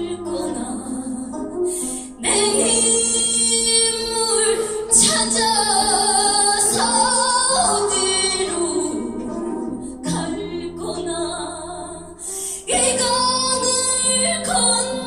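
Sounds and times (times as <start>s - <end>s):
low instrumental accompaniment: 0.0s - 15.0s
woman singing folk song: 0.0s - 15.0s.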